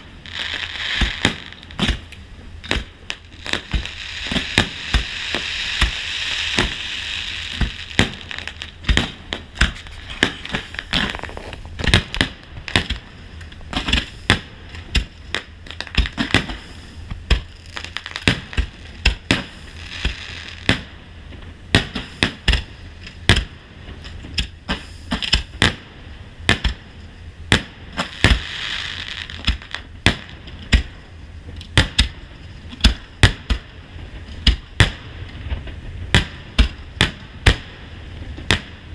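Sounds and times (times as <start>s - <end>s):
fireworks bursting with sharp bangs: 0.0s - 38.9s
fireworks crackling: 0.0s - 38.9s.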